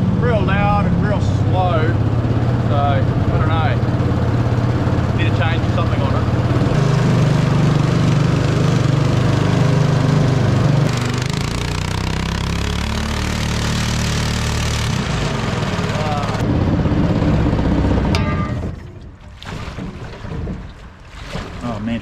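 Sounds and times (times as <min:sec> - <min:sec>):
engine labouring loudly: 0:00.0 - 0:19.2.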